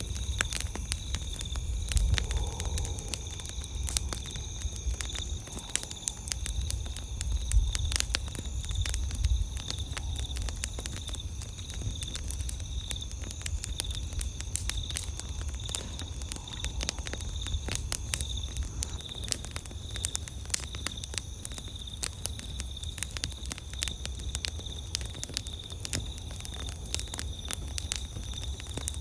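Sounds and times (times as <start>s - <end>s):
campfire crackling: 0.0s - 29.0s
night insects trilling: 0.0s - 29.0s.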